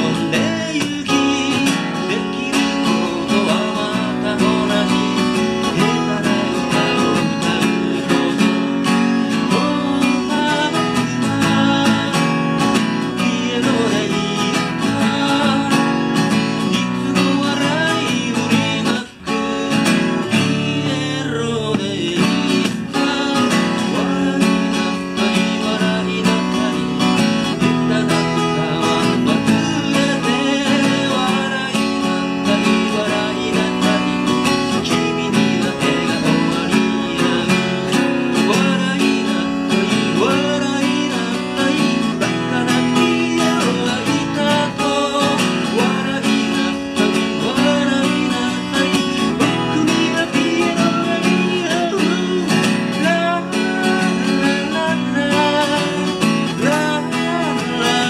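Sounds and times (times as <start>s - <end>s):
acoustic guitar strumming: 0.0s - 58.0s
man singing: 0.0s - 58.0s.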